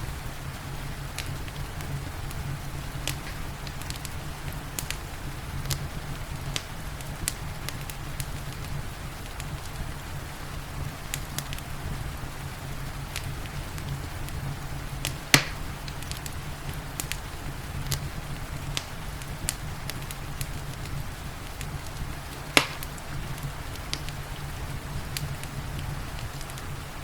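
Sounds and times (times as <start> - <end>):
fireplace fire crackling: 0.0 - 27.0
rain: 0.0 - 27.0.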